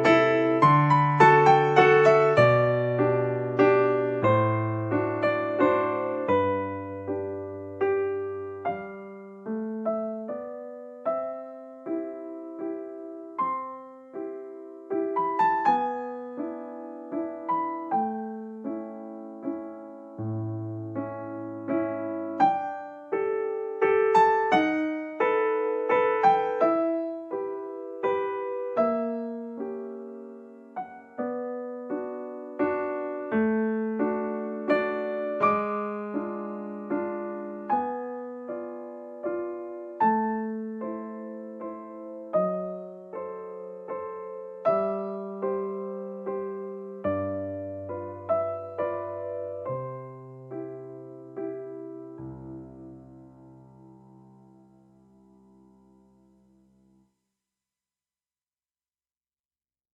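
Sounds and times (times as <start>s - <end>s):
slow gentle piano piece: 0.0s - 57.3s.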